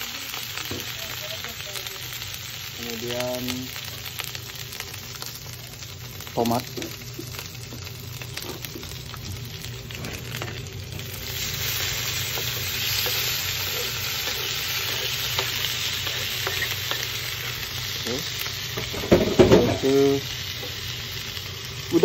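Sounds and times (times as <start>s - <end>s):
spice paste sizzling in oil: 0.0s - 22.0s.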